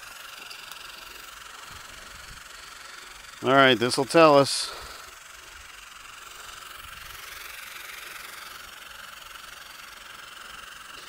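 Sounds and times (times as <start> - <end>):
hiss of water mist spray: 0.0 - 11.0.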